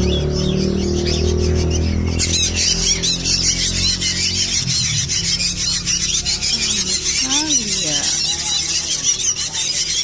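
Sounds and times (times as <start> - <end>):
bird chicks squeaky calling: 0.0 - 10.0.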